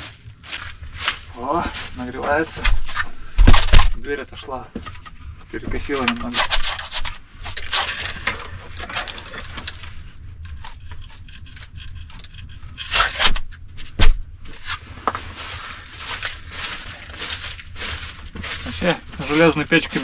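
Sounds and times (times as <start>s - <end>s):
twig broom brushing and scraping: 0.0s - 4.6s, 5.7s - 20.0s.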